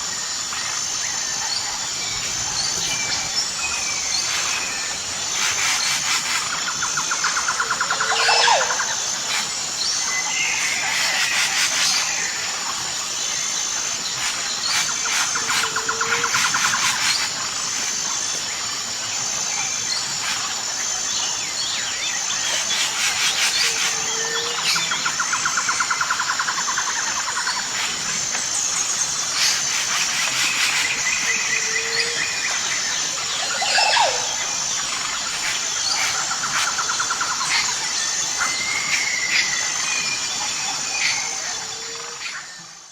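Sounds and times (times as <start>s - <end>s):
bird calls and trills: 0.0s - 42.9s
pulsing insect drone: 0.0s - 42.9s.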